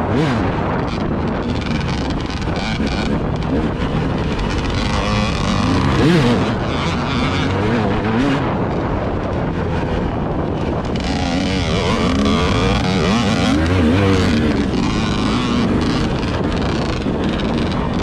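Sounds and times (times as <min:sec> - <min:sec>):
vehicle engine revving: 0:00.0 - 0:18.0
wind noise on microphone: 0:00.0 - 0:18.0.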